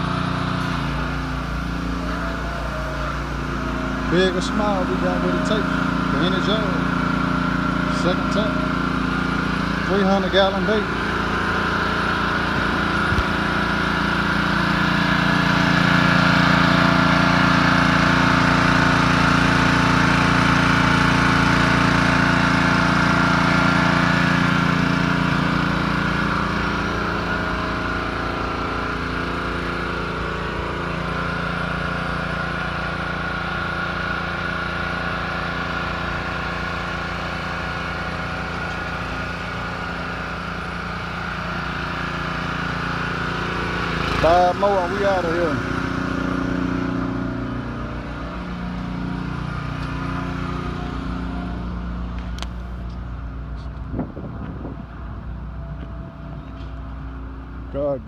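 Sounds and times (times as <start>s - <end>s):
portable generator running: 0.0s - 58.0s
pressure-washer engine running: 0.0s - 58.0s.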